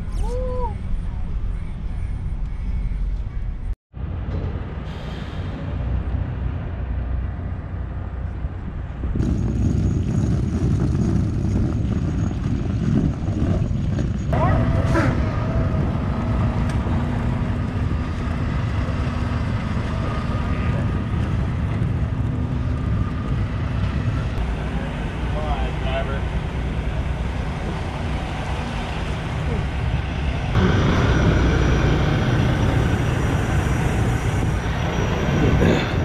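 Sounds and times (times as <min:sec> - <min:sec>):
diesel truck engine rumbling: 0:00.0 - 0:36.0.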